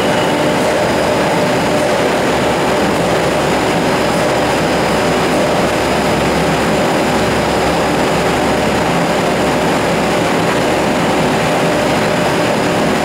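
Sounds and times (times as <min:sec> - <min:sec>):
printing machine running: 0:00.0 - 0:13.0.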